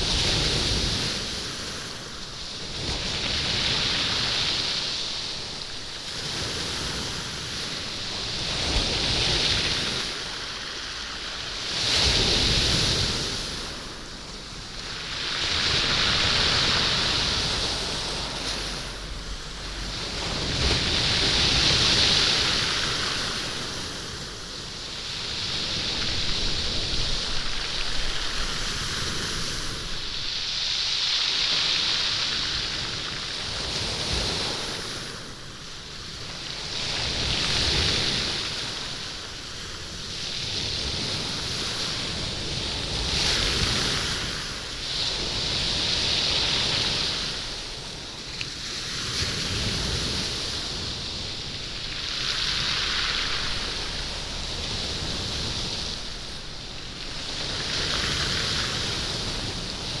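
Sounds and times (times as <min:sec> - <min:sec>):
small waves washing over pebbles: 0:00.0 - 1:00.0.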